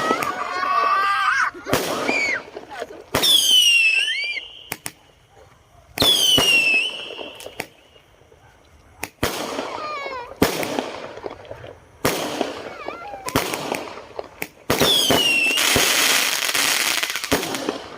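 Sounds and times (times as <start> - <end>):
whistling firework: 0.0 - 5.1, 6.0 - 8.1, 9.0 - 11.3, 12.0 - 17.9
fireworks exploding with crackling: 0.0 - 8.1, 9.0 - 17.9.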